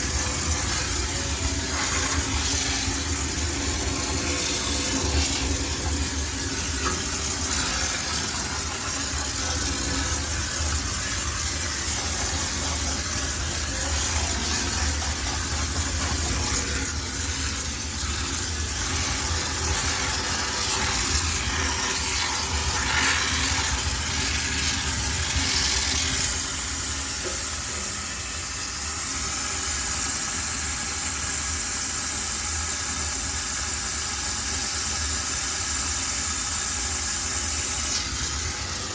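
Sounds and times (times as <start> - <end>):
steam jetting hiss: 0.0 - 38.9.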